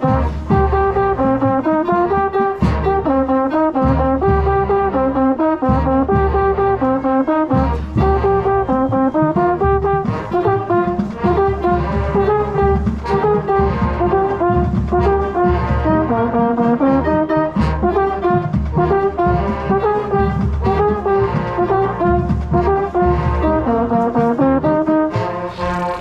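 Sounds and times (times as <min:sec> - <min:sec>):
brass chords: 0:00.0 - 0:26.0
marching band playing: 0:00.0 - 0:26.0
steady drum beat: 0:00.0 - 0:26.0.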